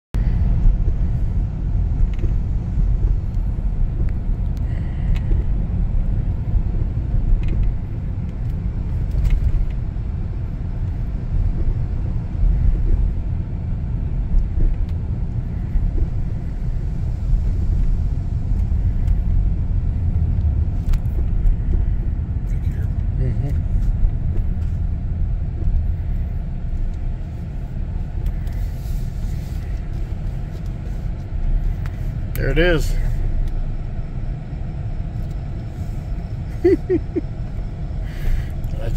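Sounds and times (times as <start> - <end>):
vehicle rumble from inside cabin: 0.1 - 38.9.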